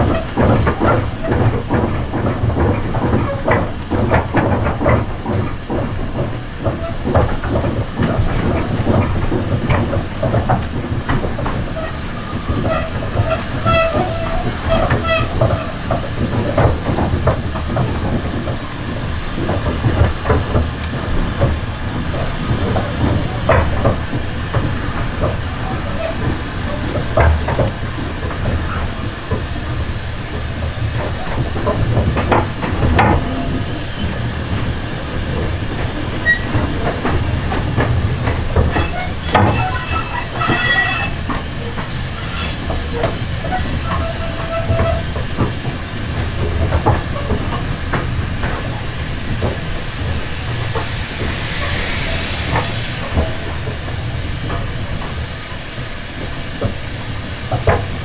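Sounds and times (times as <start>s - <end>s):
train rumbling on track: 0.0s - 58.0s
high wheel squeals: 6.7s - 56.0s.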